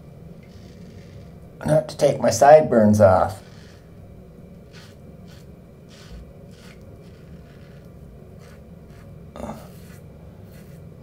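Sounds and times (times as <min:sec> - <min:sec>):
razor scraping stubble: 0:00.4 - 0:01.5, 0:02.9 - 0:10.9.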